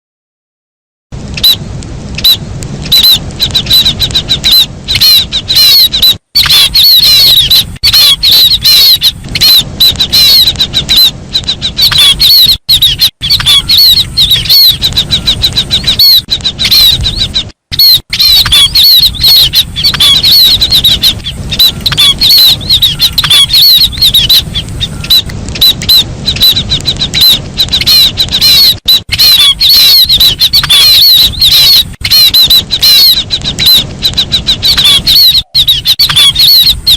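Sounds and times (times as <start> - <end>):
bird twittering and trilling: 2.9 - 36.9.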